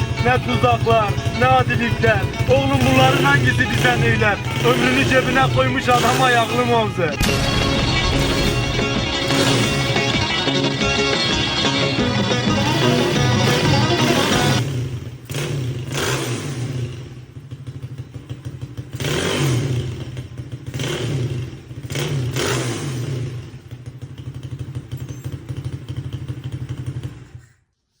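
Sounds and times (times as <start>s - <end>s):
motorcycle engine revving and idling: 0.0s - 27.6s.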